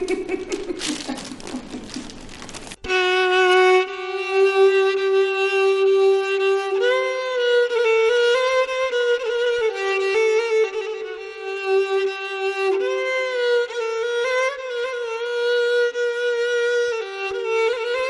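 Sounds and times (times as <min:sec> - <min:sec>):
solo violin long notes: 0:02.8 - 0:18.0.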